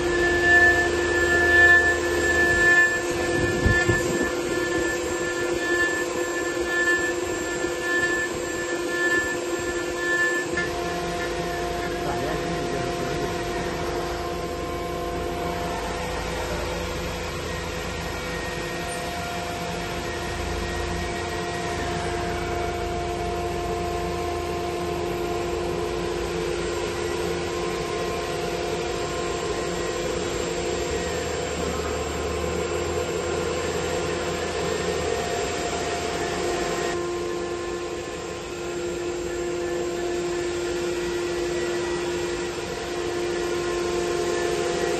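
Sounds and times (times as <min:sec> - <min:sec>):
gliding whines of axis drives: 0:00.0 - 0:44.9
router spindle whine: 0:00.0 - 0:44.9.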